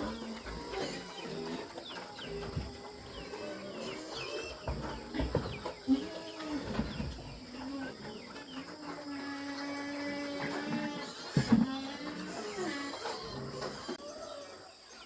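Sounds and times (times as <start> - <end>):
chickens calling: 0.0 - 15.0.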